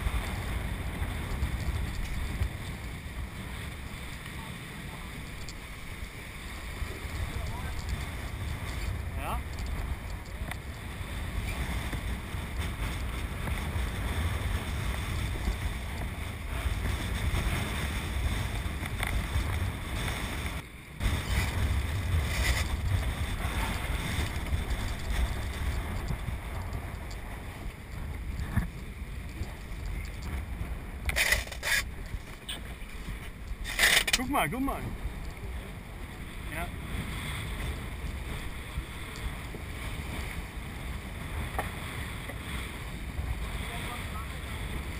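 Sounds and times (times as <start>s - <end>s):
water splashing along boat hull: 0.0s - 44.9s
wind buffeting microphone: 0.0s - 44.9s.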